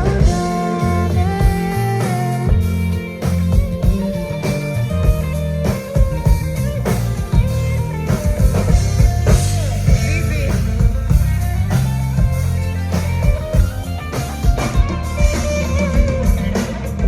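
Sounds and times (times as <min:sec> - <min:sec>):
bass guitar low notes: 0:00.0 - 0:17.0
drum kit hits: 0:00.0 - 0:17.0
guitar: 0:00.0 - 0:17.0.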